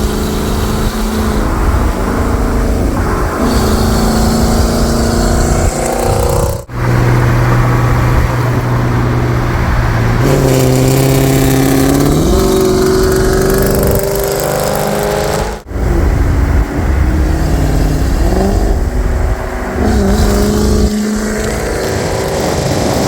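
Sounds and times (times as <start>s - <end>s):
loud car engine exhaust: 0.0s - 23.0s.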